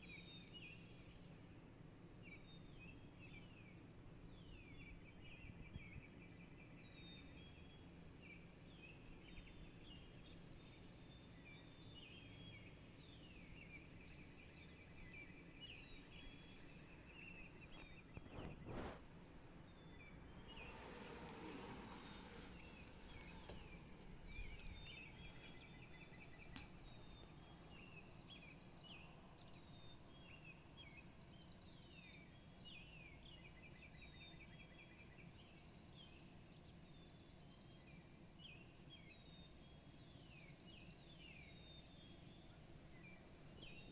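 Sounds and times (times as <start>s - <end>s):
small birds chirping and trilling: 0.0s - 43.9s.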